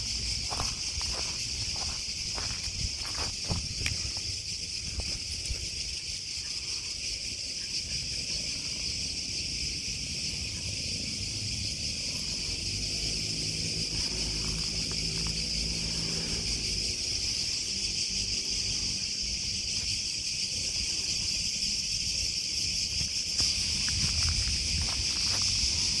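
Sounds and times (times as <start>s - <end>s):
cicadas buzzing: 0.0s - 26.0s.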